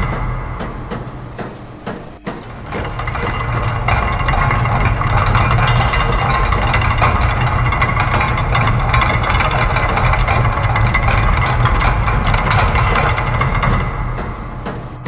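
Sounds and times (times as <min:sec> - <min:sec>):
gears and ratchets clattering: 0:00.0 - 0:00.8, 0:02.3 - 0:15.0
machine low hum: 0:00.0 - 0:15.0.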